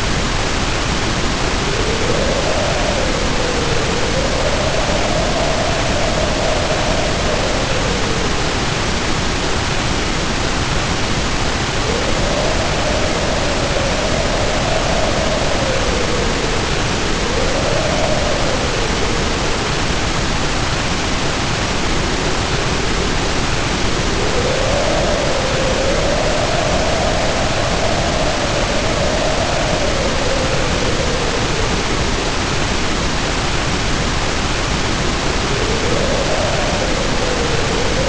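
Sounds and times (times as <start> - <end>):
heavy rain pouring: 0.0 - 38.0
wind howling: 0.0 - 38.0.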